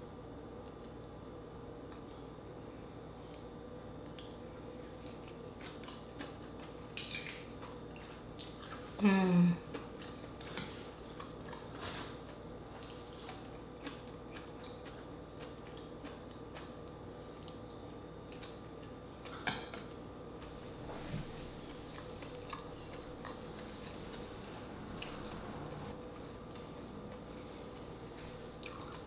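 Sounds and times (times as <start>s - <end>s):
chewing: 0.7s - 9.0s, 9.6s - 20.6s, 21.2s - 24.3s, 28.1s - 29.0s.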